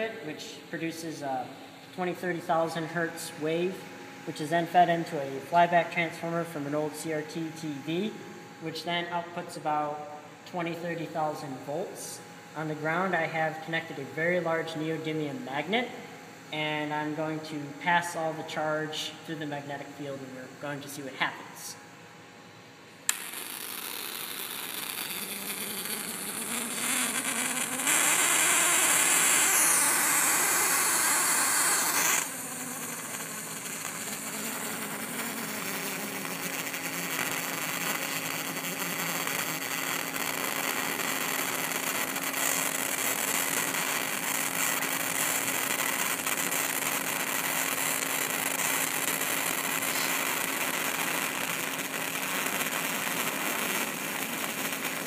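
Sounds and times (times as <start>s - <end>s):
electric arc buzzing: 0.0s - 55.0s.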